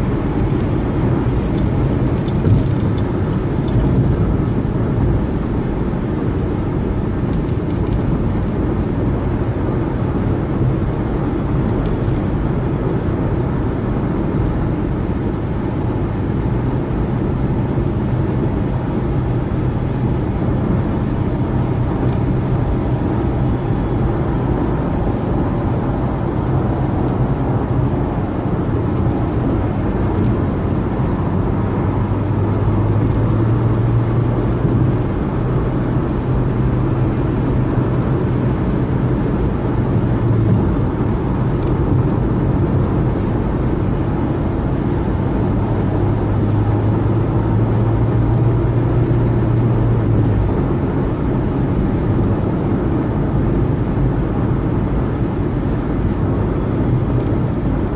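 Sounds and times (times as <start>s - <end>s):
low engine drone: 0.0s - 57.9s
road and tyre noise: 0.0s - 57.9s.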